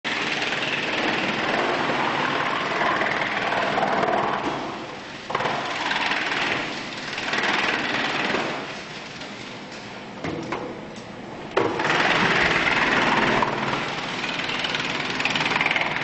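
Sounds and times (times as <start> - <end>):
wood chipper grinding: 0.1 - 9.5, 11.6 - 16.0.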